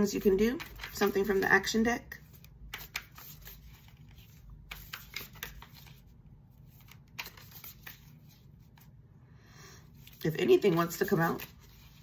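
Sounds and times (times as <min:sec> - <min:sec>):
cards being shuffled: 0:00.0 - 0:08.9, 0:10.0 - 0:12.0.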